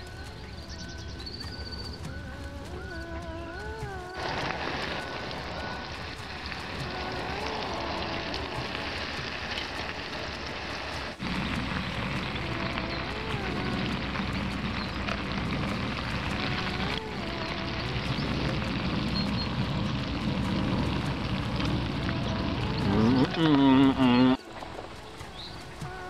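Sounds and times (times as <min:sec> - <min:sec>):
camping stove burning: 0:00.0 - 0:26.0.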